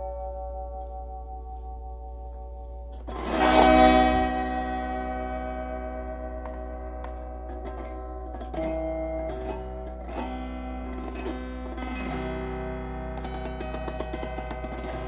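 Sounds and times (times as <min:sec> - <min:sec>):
autoharp strummed chords: 0:00.0 - 0:15.0.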